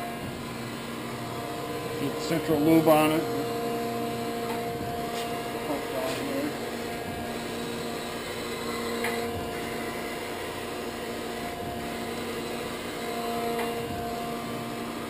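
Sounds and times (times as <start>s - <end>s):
grinder motor and pump hum: 0.0s - 15.0s.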